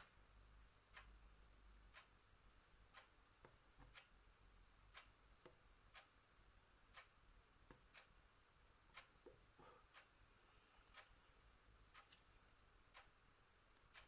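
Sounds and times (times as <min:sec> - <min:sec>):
clock ticking: 0:00.0 - 0:10.2, 0:10.8 - 0:14.0.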